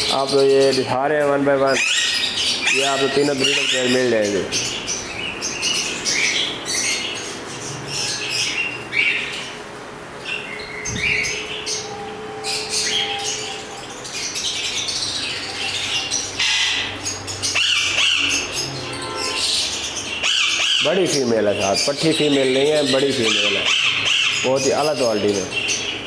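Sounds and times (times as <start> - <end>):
parakeets chirping and squawking: 0.0 - 26.0.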